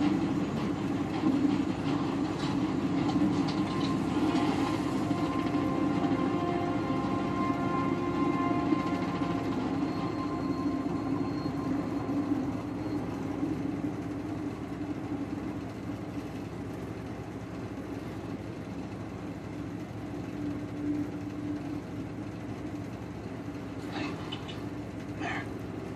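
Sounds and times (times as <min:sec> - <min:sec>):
helicopter rotor drone: 0:00.0 - 0:25.9.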